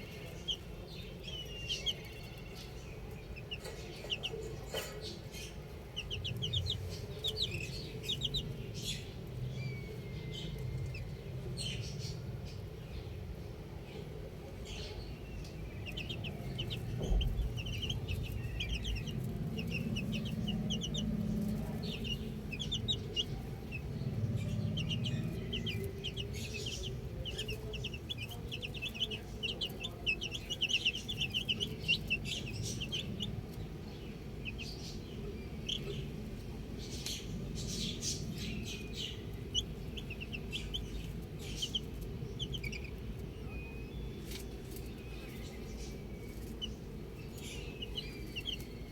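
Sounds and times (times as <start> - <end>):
baby chicks peeping: 0.0 - 48.9
low background rumble: 0.0 - 48.9.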